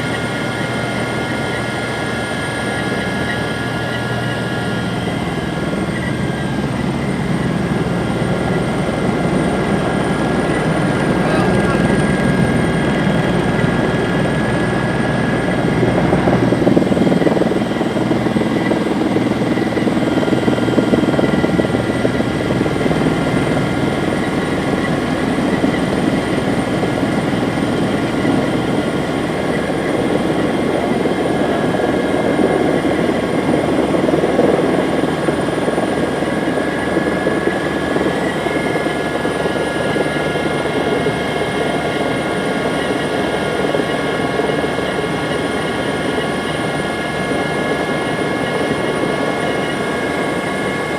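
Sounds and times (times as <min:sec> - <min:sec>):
helicopter rotor and engine noise: 0:00.0 - 0:50.9
high whine: 0:00.0 - 0:50.9.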